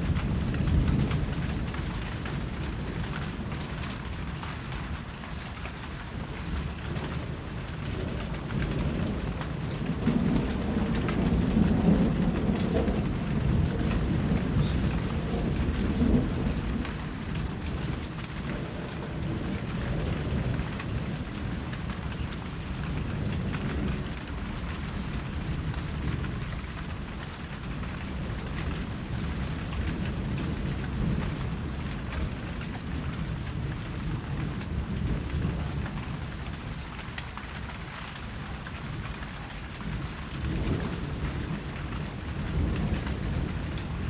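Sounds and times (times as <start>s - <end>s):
low rumble of thunder: 0.0s - 44.0s
steady rain falling: 0.0s - 44.0s.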